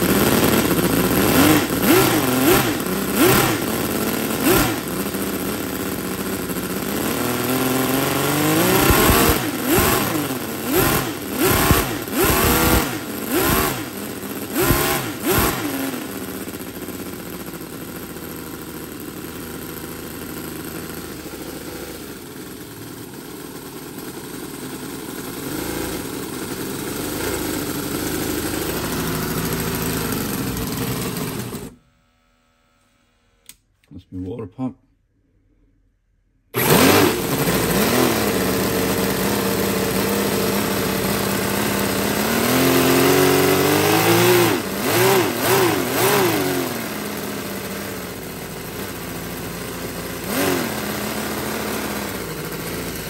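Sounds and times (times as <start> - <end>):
model petrol engine revving: 0.0 - 31.8, 36.5 - 53.0.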